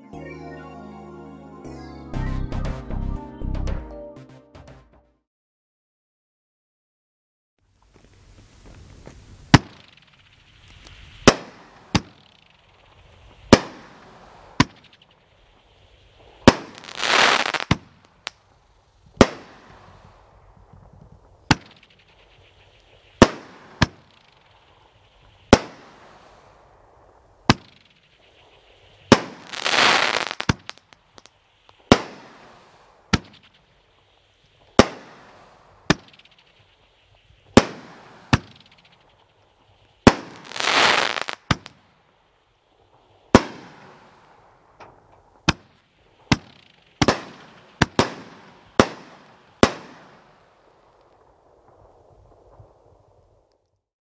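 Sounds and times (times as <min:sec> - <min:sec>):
dense firework crackling: 0:07.6 - 0:53.9
firework shots: 0:08.2 - 0:53.0.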